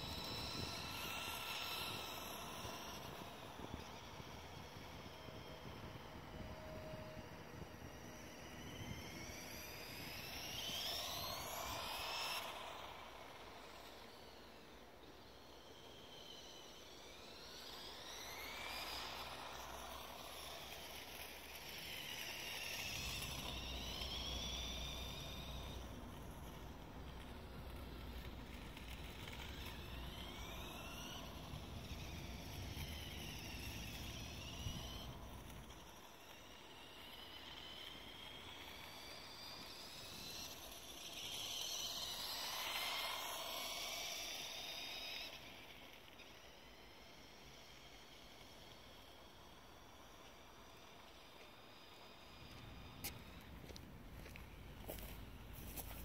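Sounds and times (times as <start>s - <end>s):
toy motorcycle electric motor whine: 0.0s - 56.0s.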